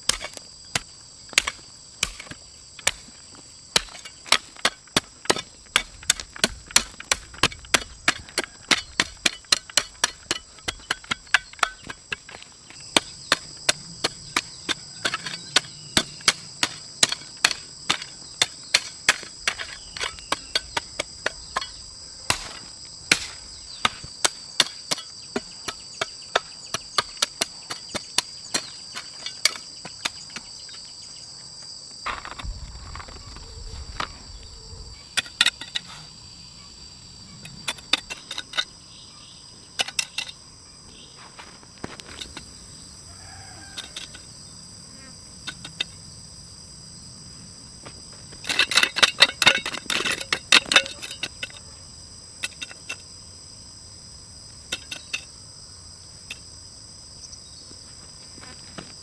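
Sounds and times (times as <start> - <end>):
insect chorus chirring: 0.0 - 59.0.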